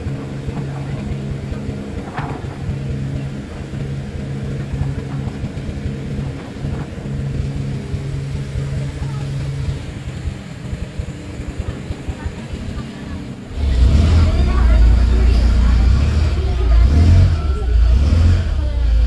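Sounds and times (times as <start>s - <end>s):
boat engine droning: 0.0s - 19.0s
water rushing in wake: 0.0s - 19.0s
wind buffeting microphone: 0.0s - 19.0s.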